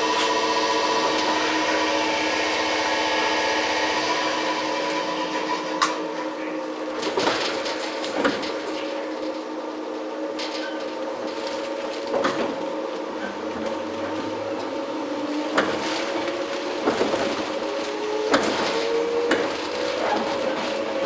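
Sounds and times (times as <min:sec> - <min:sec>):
train motor hum: 0:00.0 - 0:21.0.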